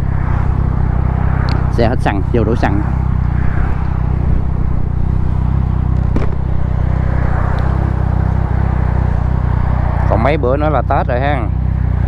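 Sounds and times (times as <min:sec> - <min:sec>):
wind noise on microphone: 0:00.0 - 0:10.0
motorcycle engine running: 0:00.0 - 0:12.0.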